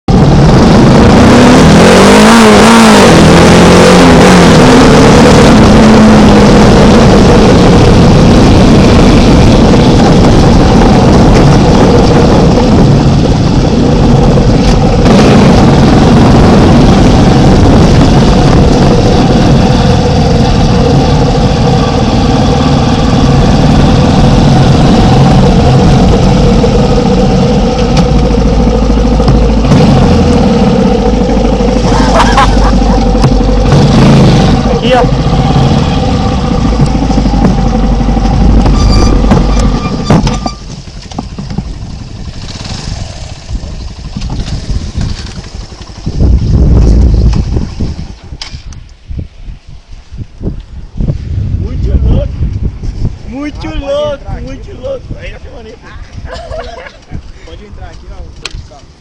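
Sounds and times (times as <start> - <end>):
small motorcycle engine running: 0.1 - 48.2.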